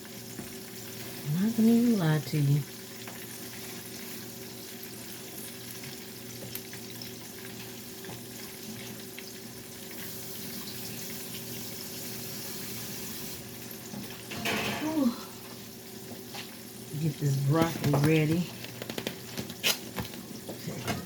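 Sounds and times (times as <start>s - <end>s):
fish frying in hot oil: 0.0s - 20.7s.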